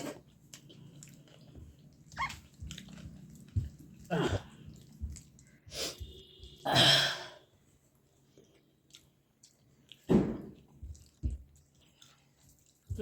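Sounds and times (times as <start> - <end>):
person chewing food: 0.0 - 6.6, 7.8 - 13.0.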